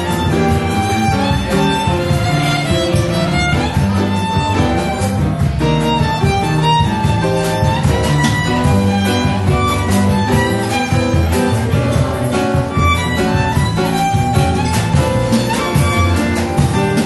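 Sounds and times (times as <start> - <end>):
double bass line: 0.0 - 17.0
drum kit with light cymbals: 0.0 - 17.0
violin melody: 0.0 - 17.0.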